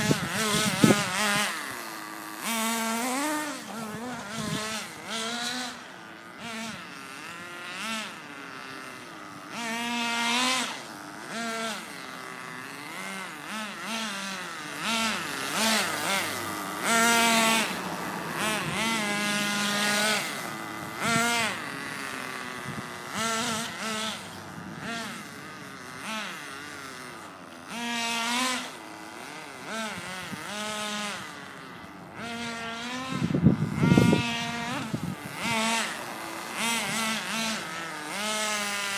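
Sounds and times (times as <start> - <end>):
rc car engine revving: 0.0 - 38.9.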